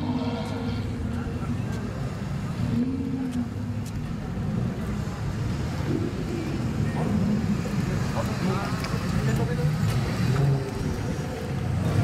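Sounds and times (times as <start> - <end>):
car engines driving slowly past: 0.0 - 12.0.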